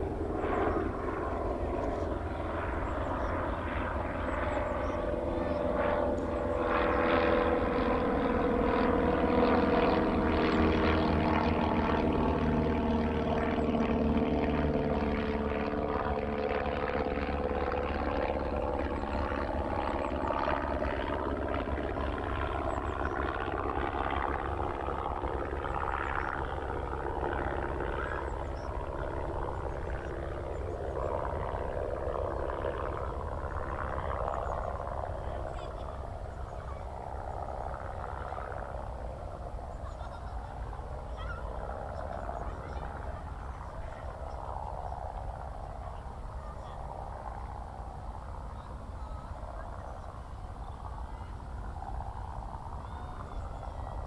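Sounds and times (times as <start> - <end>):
propeller aircraft droning overhead: 0.0 - 54.0.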